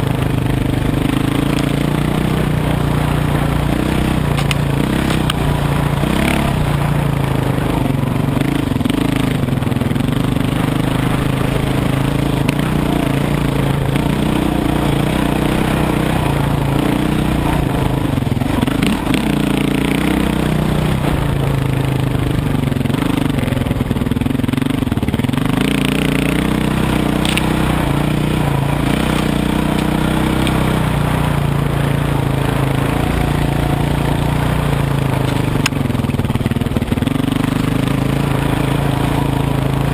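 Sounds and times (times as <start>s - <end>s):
dirt bike engine revving: 0.0s - 39.9s
wind and road noise: 0.0s - 39.9s.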